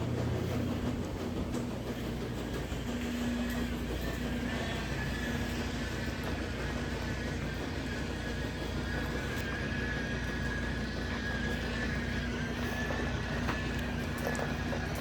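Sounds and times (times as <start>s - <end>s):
washing machine humming: 0.0s - 15.0s
high-pitched whine: 2.2s - 15.0s.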